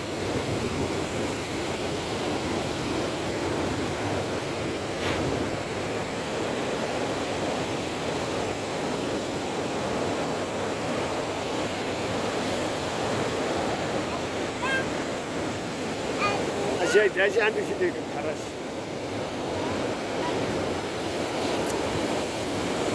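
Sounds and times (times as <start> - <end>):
surf breaking and rushing: 0.0 - 22.9.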